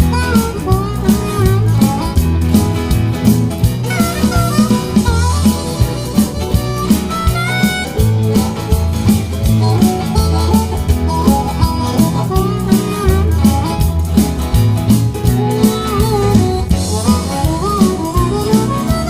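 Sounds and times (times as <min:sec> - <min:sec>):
heavy bass line: 0:00.0 - 0:19.0
melody: 0:00.0 - 0:19.0
steady drum beat: 0:00.0 - 0:19.0.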